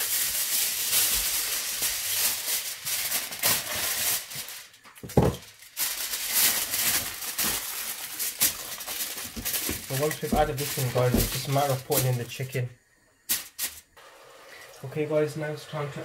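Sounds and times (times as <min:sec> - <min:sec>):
aluminium foil crinkling: 0:00.0 - 0:12.6, 0:13.3 - 0:13.9.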